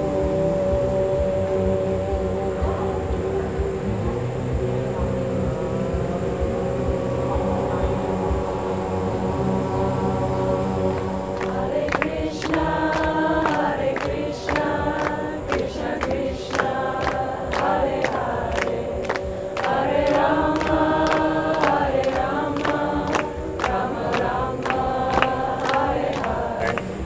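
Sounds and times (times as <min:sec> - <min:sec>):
group chanting in harmony: 0:00.0 - 0:27.0.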